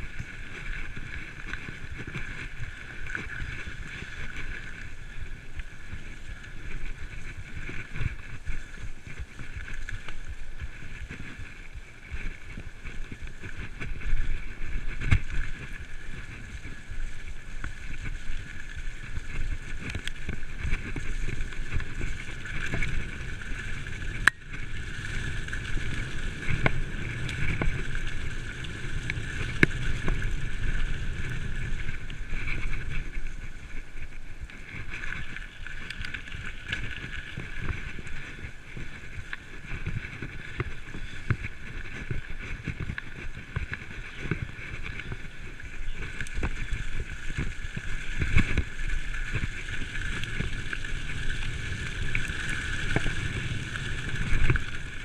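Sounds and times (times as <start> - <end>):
bike knocking and rattling: 0.0 - 55.0
bike tyres rumbling on dirt: 0.0 - 55.0
wind noise on microphone: 0.0 - 55.0.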